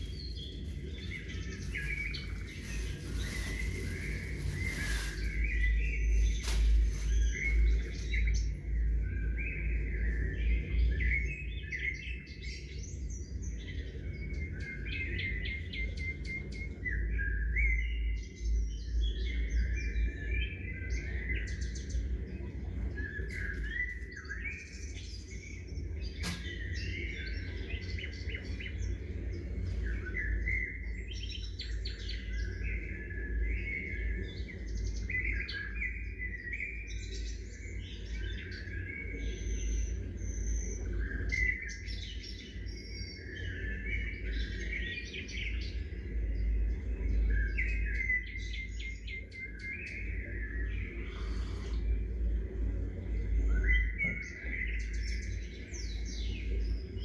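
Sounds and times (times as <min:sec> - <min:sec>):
songbirds chirping and trilling: 0:00.0 - 0:57.0
steady low rumble: 0:00.0 - 0:57.0.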